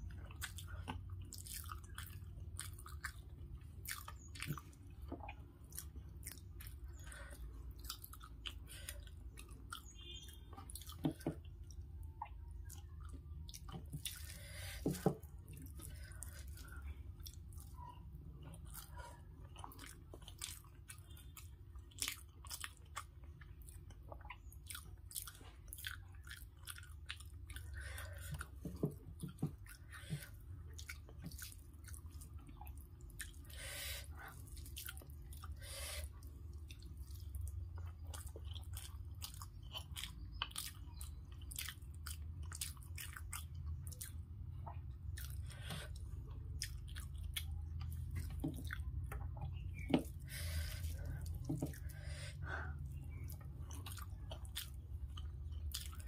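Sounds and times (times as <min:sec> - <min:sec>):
chewing and wet mouth sounds: 0:00.0 - 0:56.0
steady low hum: 0:00.0 - 0:56.0.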